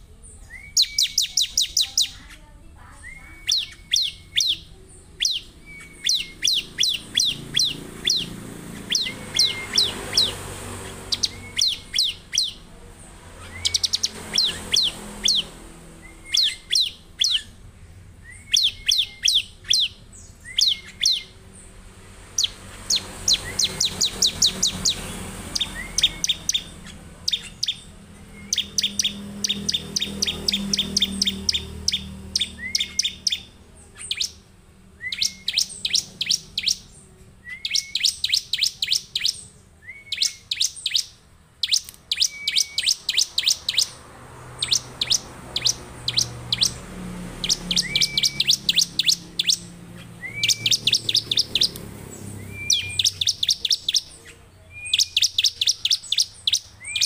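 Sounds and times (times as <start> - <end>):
bird singing sharp high chips: 0.0 - 57.0.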